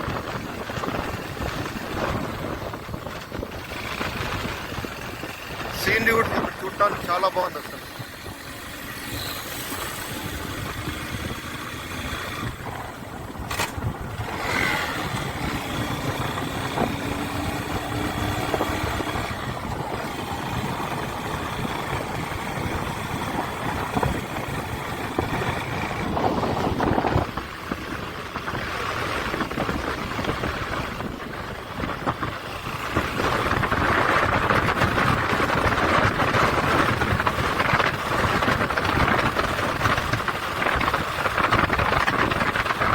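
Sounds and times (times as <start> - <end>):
motorcycle engine running: 0.0 - 42.9
road noise: 0.0 - 42.9
rushing wind: 0.0 - 42.9.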